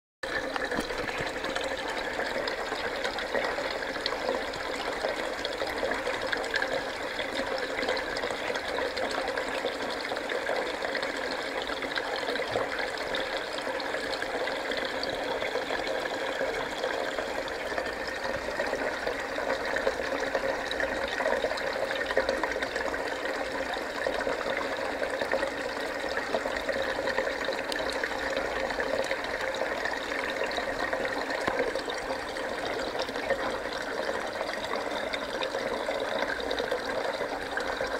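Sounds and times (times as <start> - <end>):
water flowing into tank: 0.2 - 37.9.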